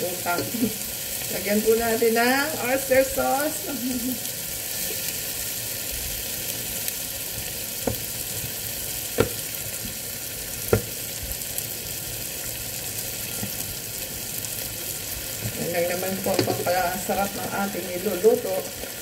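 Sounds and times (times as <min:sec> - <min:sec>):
onion sizzling in a pot: 0:00.0 - 0:19.0.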